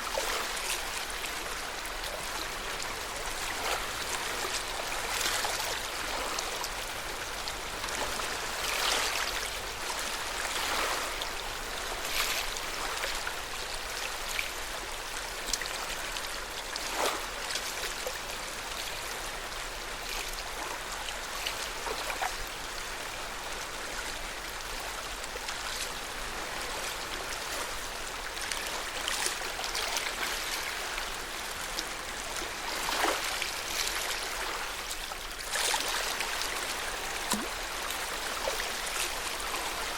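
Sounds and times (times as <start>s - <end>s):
small water splashes: 0.0s - 39.9s
water lapping at shore: 0.0s - 39.9s.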